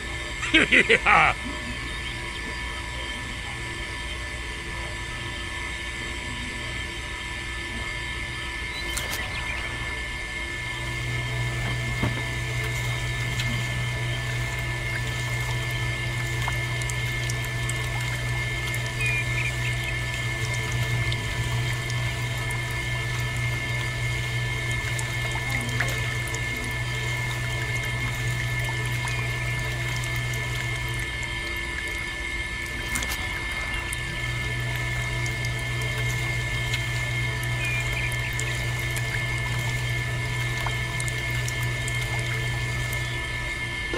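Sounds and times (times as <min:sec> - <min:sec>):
low hum: 0:00.0 - 0:43.9
small electric motor whining: 0:00.0 - 0:43.9.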